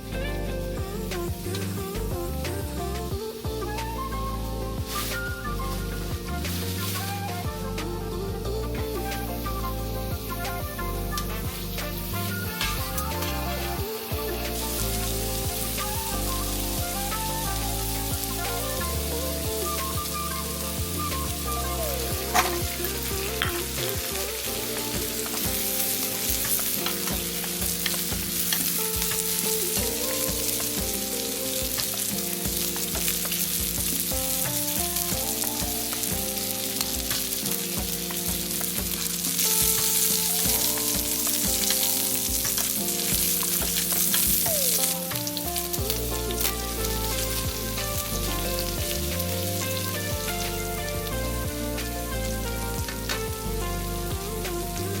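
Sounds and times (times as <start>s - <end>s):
food sizzling in a pan: 0.0s - 55.0s
soft background music: 0.0s - 55.0s
stirring in a pan: 8.8s - 55.0s.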